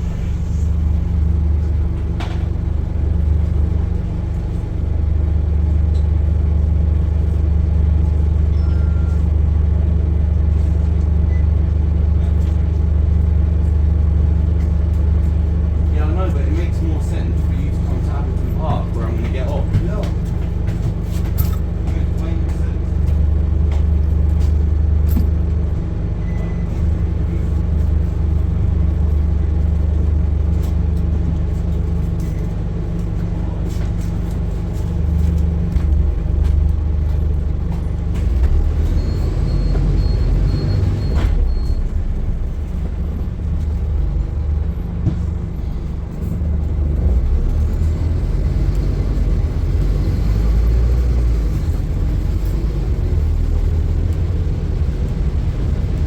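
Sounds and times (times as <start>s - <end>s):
bus diesel engine droning: 0.0s - 56.0s.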